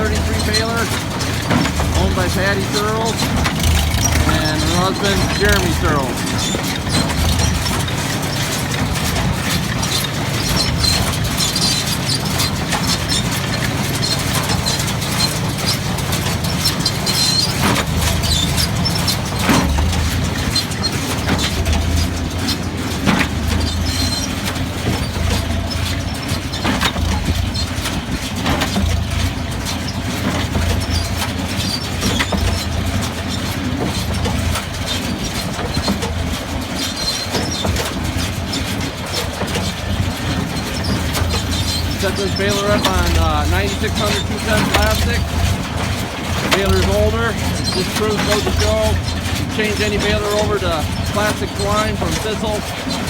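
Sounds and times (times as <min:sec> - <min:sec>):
baler mechanical clacks: 0:00.0 - 0:53.0
engine drone: 0:00.0 - 0:53.0.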